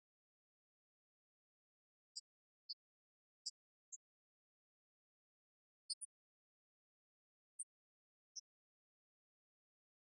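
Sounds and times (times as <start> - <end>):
faint high-pitched chirps: 1.3 - 10.0.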